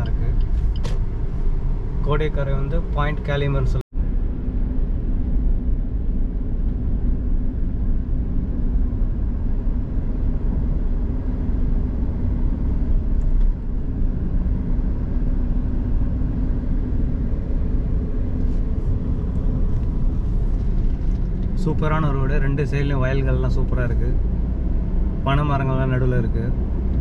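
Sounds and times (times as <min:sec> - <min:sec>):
car engine and tyre drone: 0:00.0 - 0:27.0.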